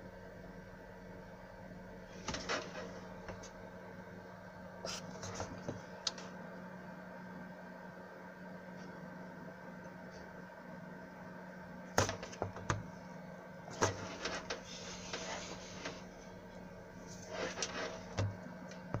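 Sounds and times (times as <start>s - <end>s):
power supply humming: 0.0s - 19.0s.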